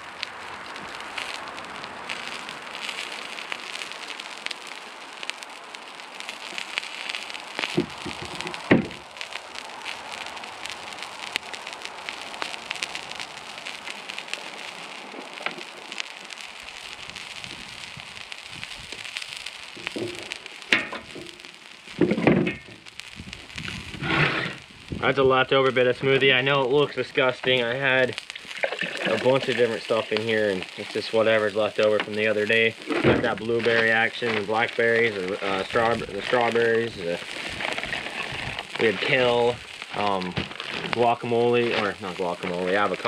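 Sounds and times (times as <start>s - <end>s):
food sizzling on a griddle: 0.0s - 43.0s.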